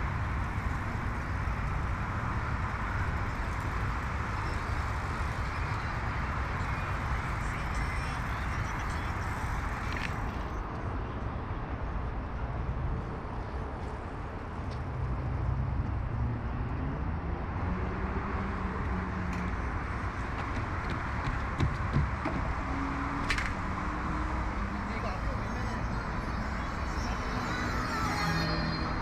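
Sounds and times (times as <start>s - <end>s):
city traffic rumble: 0.0s - 29.0s.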